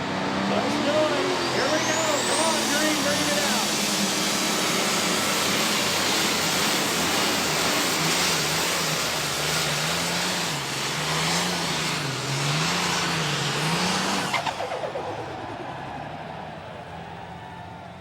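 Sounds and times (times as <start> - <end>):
tractor diesel engine roaring: 0.0 - 18.0.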